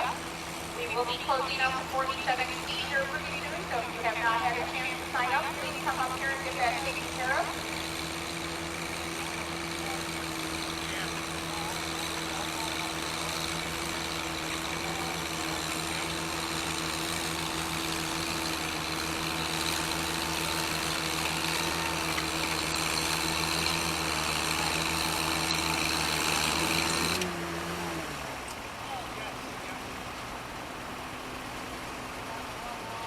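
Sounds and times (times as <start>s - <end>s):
tractor engine idling: 0.0s - 27.2s, 28.3s - 33.0s.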